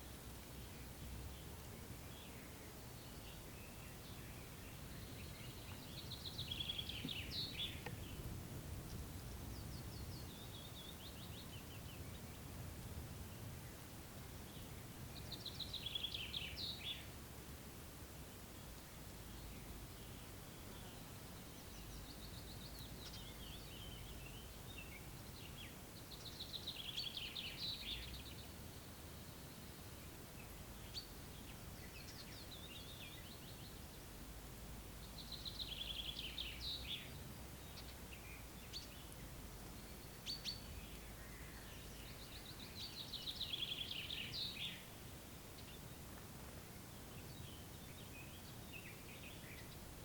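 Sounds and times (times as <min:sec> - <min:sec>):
faint background hiss: 0:00.0 - 0:50.0.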